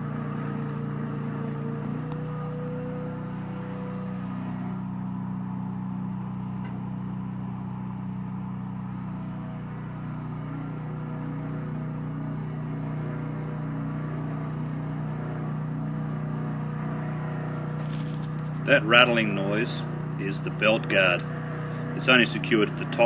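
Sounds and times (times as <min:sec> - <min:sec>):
sawmill petrol engine running: 0:00.0 - 0:23.0.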